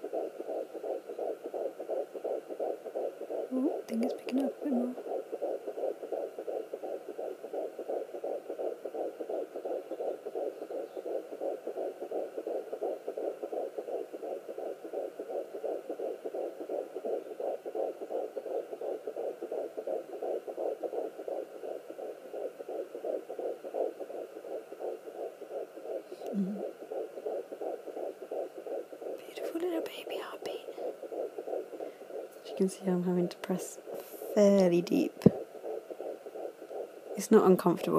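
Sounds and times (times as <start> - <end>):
fetal heartbeat on doppler speaker: 0.0 - 37.9.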